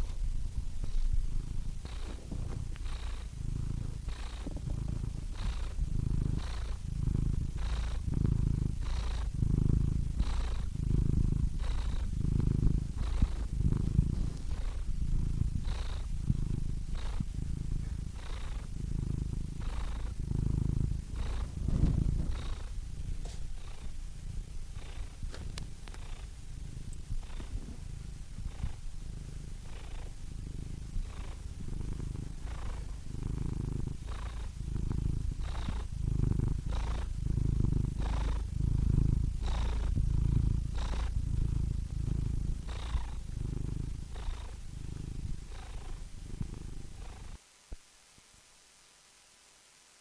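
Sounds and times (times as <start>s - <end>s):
cat purring: 0.0s - 47.8s.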